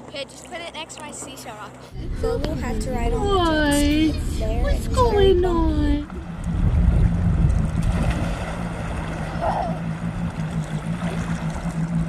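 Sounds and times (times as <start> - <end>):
jet ski engine running: 0.0 - 12.0
wind and water rumble: 0.0 - 12.0.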